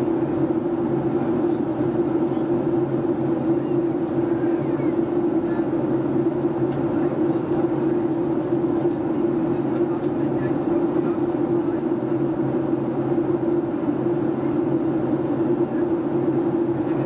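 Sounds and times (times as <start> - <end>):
airplane cabin drone: 0.0 - 17.0.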